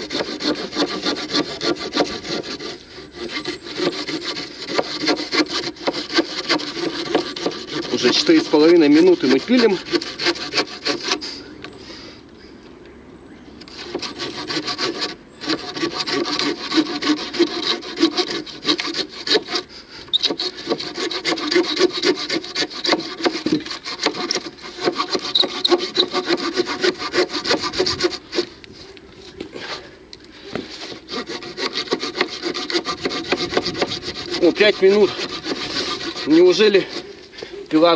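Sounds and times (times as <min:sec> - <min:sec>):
knife saw cutting wood: 0:00.0 - 0:11.4, 0:13.7 - 0:28.6, 0:30.6 - 0:37.9.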